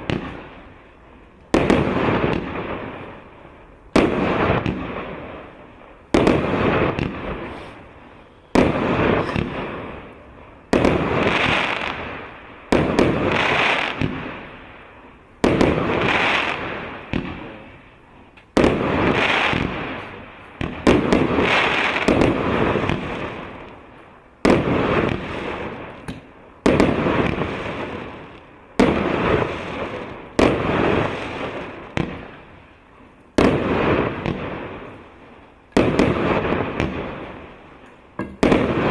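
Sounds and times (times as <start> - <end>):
firework bangs: 0.0 - 38.9.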